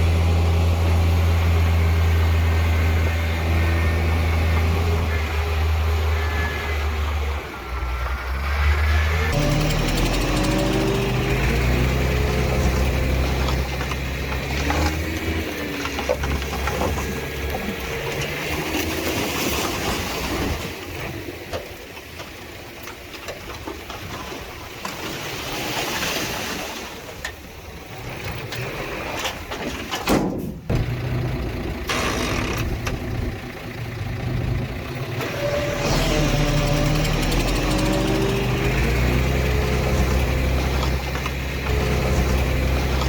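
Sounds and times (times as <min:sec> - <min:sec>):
diesel machinery engines running: 0:00.0 - 0:24.0, 0:27.4 - 0:43.0.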